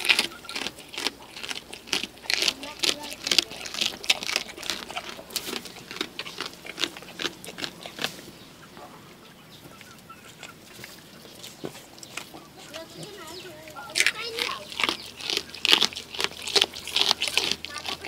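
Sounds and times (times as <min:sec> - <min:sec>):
goat chewing and crunching: 0:00.0 - 0:18.0.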